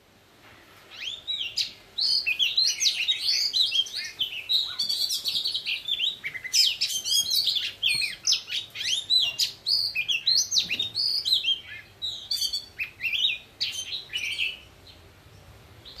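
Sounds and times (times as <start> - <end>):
birds singing whistled phrases: 0.9 - 16.0.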